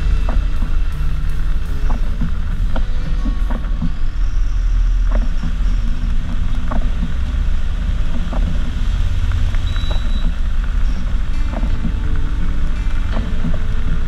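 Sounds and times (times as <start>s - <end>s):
bus engine rumble: 0.0s - 14.0s
hiss of road noise: 0.0s - 14.0s.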